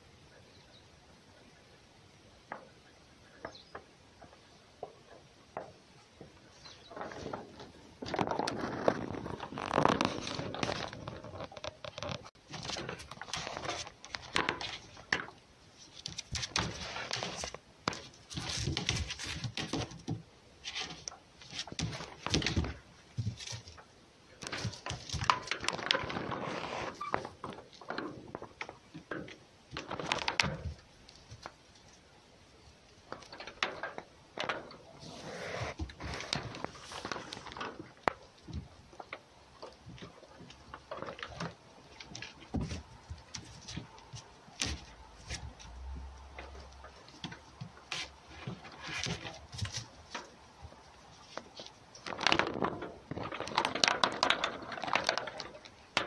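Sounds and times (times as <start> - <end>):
rustling: 2.5 - 56.0.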